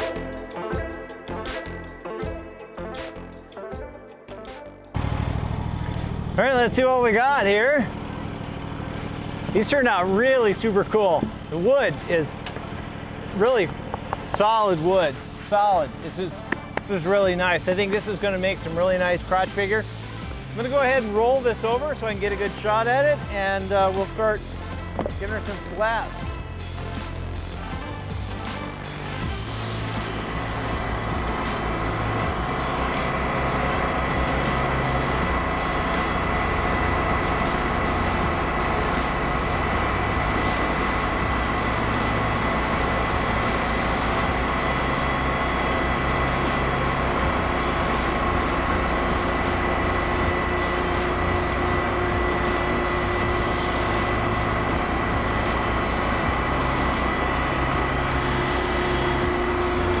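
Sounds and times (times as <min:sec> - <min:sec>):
band sawmill cutting log: 0:05.0 - 1:00.0.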